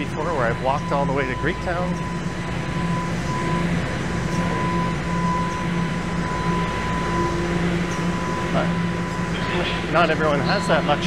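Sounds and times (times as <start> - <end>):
high whine: 0.0 - 11.0
subway station rumble and hum: 0.0 - 11.0.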